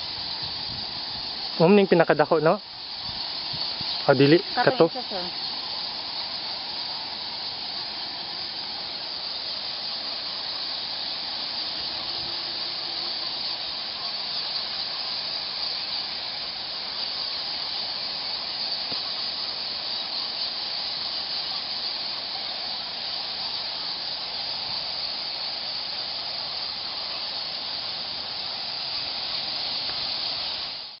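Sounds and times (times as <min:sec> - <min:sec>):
fruit bats chattering: 0:00.2 - 0:31.0.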